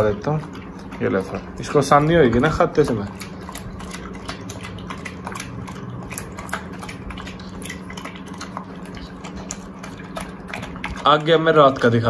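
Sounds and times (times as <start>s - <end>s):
dog chewing and lapping food: 0.0s - 12.0s
steady low hum: 0.0s - 12.0s.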